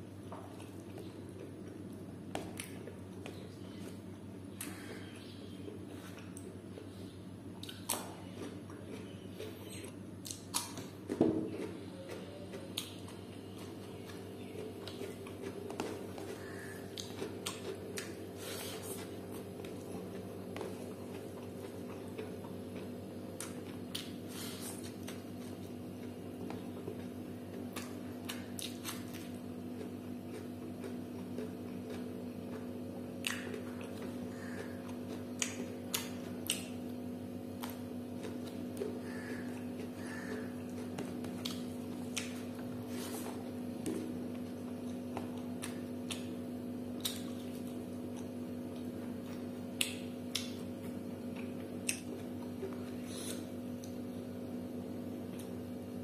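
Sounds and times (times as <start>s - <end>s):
steady low hum: 0.0s - 56.0s
wet chewing: 0.3s - 54.1s.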